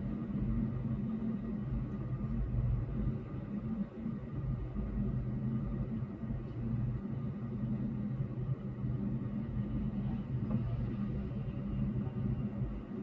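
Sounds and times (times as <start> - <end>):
muffled traffic rumble: 0.0 - 13.0.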